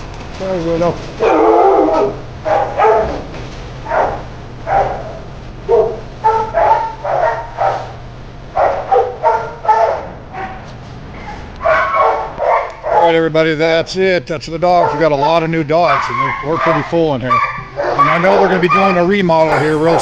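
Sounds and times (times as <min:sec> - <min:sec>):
dogs barking: 0:01.2 - 0:13.2, 0:14.7 - 0:20.0.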